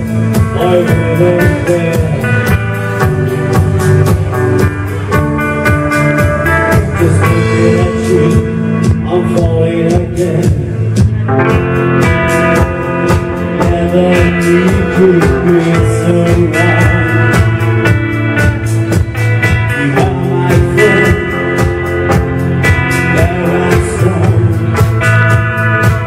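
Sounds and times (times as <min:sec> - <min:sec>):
drum kit beat: 0:00.0 - 0:26.0
electric guitar: 0:00.0 - 0:26.0
live band playing: 0:00.0 - 0:26.0.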